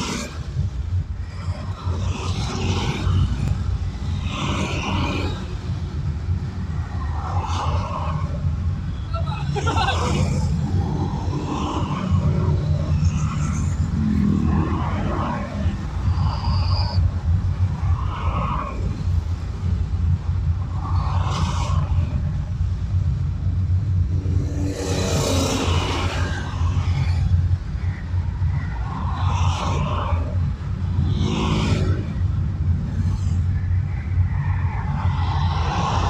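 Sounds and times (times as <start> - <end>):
car road noise rumble: 0.0 - 36.0.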